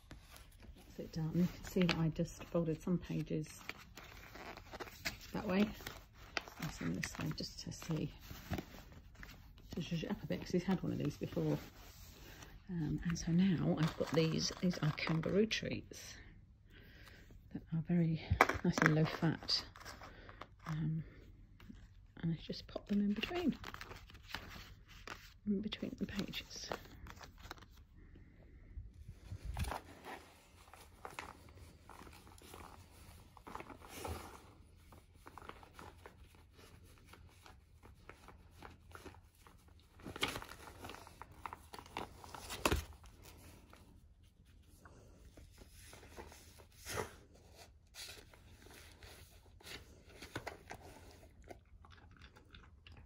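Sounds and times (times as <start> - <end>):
paper rustling and crinkling: 0.0 - 15.6, 18.3 - 21.8, 22.5 - 28.1, 29.1 - 51.5.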